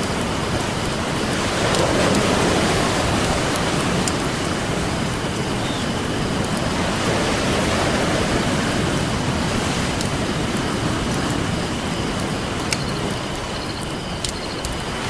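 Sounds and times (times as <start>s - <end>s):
campfire crackling: 0.0s - 15.0s
ocean surf washing ashore: 0.0s - 15.0s.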